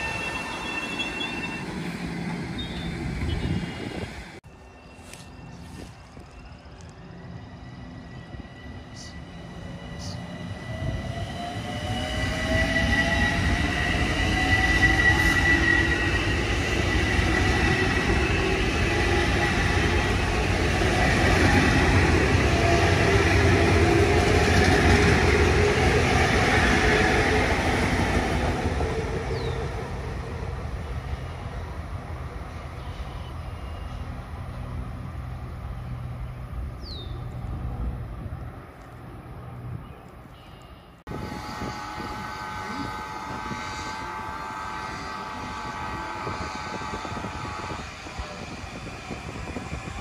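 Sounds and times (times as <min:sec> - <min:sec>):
train passing: 0:00.0 - 0:50.0.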